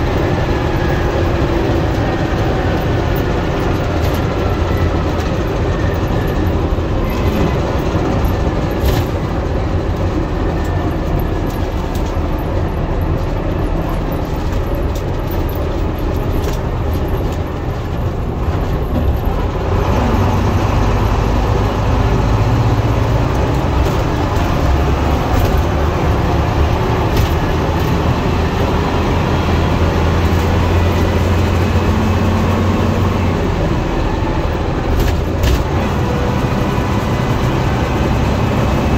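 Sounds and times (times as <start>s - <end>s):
bus body rattling: 0.0s - 38.9s
bus diesel engine running: 0.0s - 38.9s.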